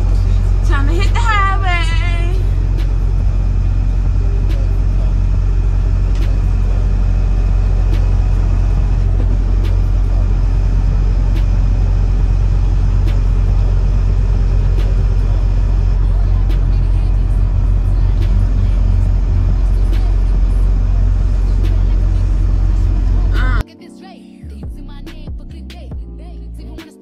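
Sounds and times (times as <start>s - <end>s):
truck engine and road rumble: 0.0s - 23.6s.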